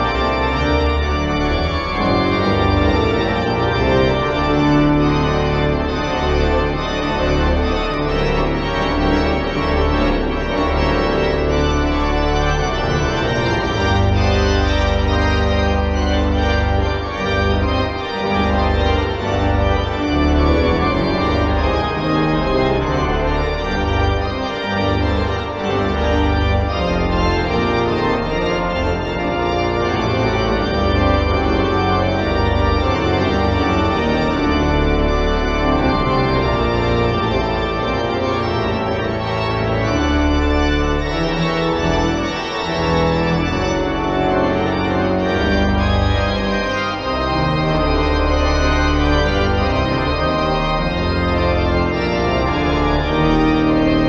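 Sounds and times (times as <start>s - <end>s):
pipe organ playing chords: 0.0s - 54.0s.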